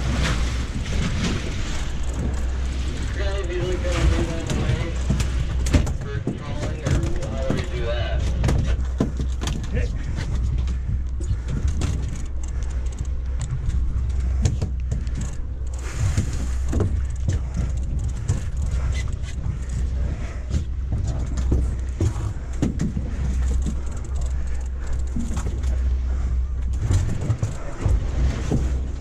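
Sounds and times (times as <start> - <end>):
boat motor droning: 0.0 - 29.0
water noise: 0.0 - 29.0
wind buffeting: 0.0 - 29.0.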